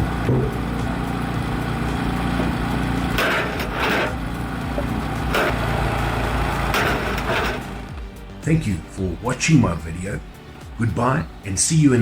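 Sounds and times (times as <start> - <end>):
log splitter engine humming: 0.0 - 12.0.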